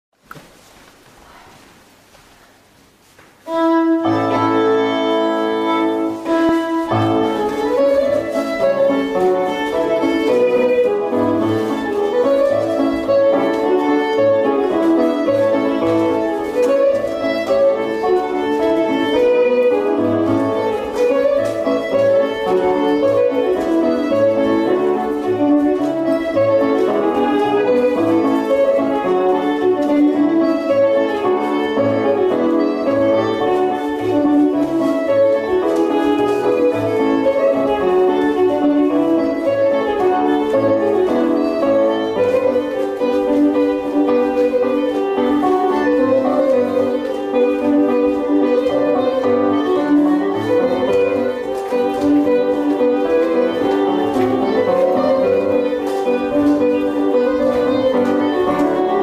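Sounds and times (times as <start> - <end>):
fiddle and piano dance music: 3.4 - 59.0.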